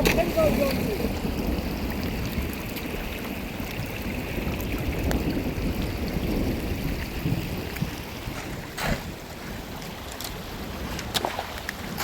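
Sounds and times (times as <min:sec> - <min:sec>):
floodwater flowing: 0:00.0 - 0:12.0
heavy rain: 0:00.0 - 0:12.0.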